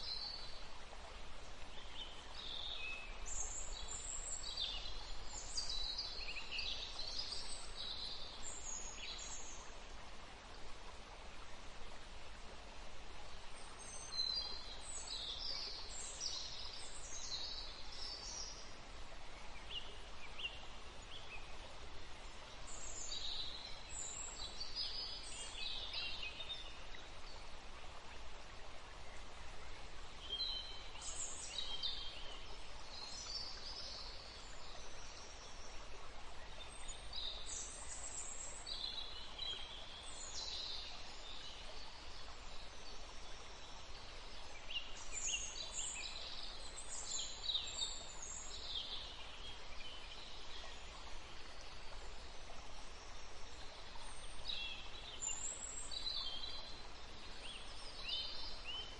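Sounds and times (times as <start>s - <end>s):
steady background hiss: 0.0s - 58.9s.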